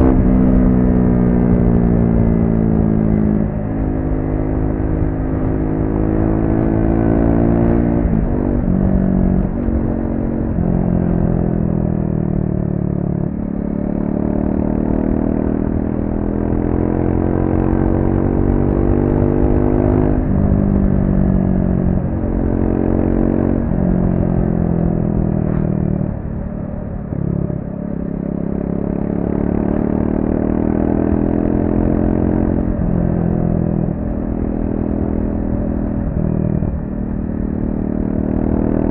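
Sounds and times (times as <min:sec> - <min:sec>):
motorcycle engine revs rising and falling: 0:00.0 - 0:38.9.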